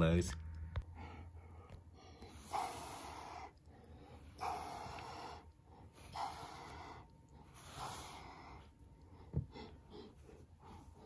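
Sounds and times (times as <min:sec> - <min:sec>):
soft breathy noises: 0:00.8 - 0:11.0.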